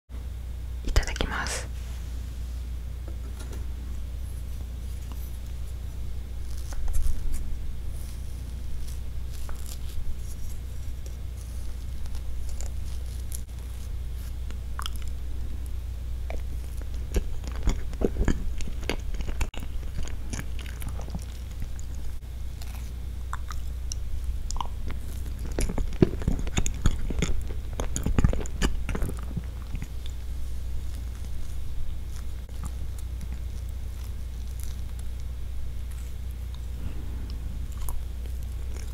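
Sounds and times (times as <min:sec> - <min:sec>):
low hum: 0:00.2 - 0:38.9
chewing and mouth clicks: 0:06.4 - 0:38.9.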